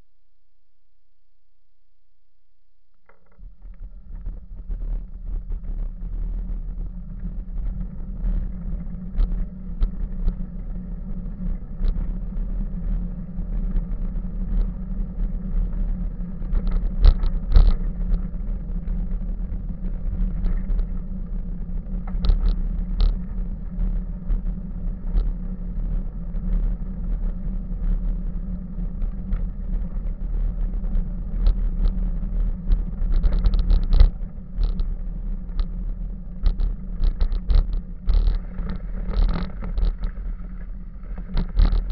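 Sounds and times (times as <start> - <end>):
bicycle tyres rumbling on gravel: 3.3 - 41.9.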